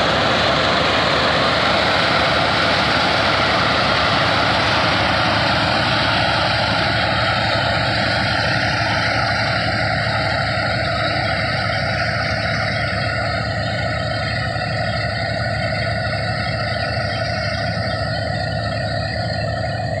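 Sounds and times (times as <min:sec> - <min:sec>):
tractor engine driving thresher: 0:00.0 - 0:20.0.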